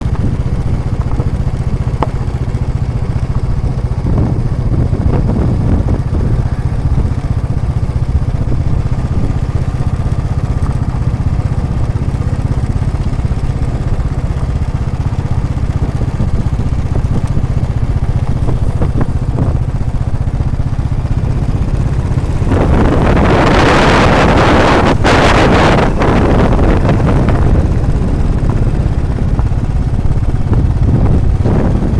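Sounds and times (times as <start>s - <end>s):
motorcycle exhaust running: 0.0s - 31.9s
wind noise on microphone: 0.0s - 31.9s.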